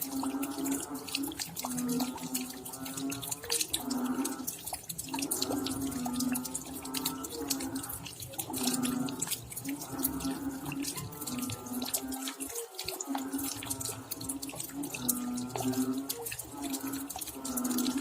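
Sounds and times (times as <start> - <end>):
rain drops pattering: 0.0 - 18.0.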